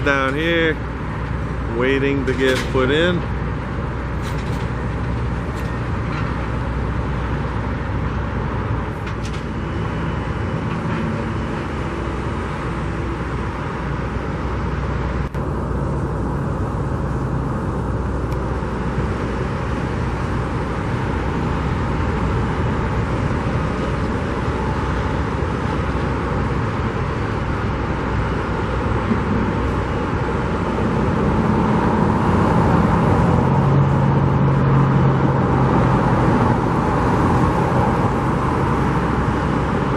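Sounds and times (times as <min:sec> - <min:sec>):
heavy machinery engines rumbling: 0:00.0 - 0:39.9.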